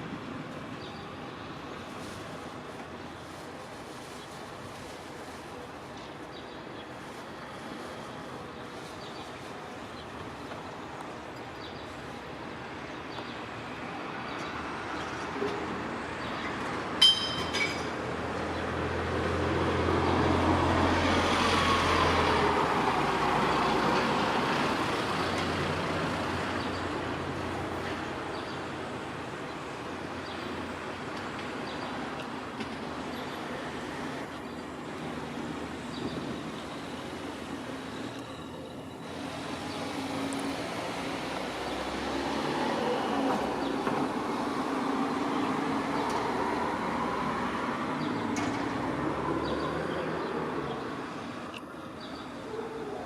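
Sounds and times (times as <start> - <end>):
background traffic noise: 0.0 - 53.0.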